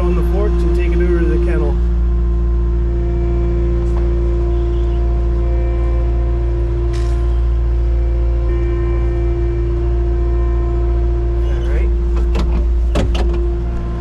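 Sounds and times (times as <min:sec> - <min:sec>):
farm machine engine rumble: 0:00.0 - 0:14.0.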